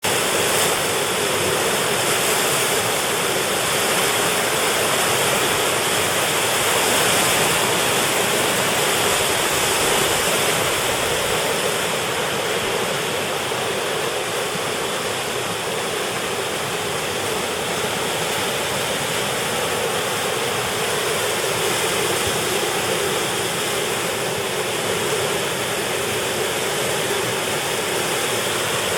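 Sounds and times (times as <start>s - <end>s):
whitewater rapids rushing: 0.0s - 28.9s.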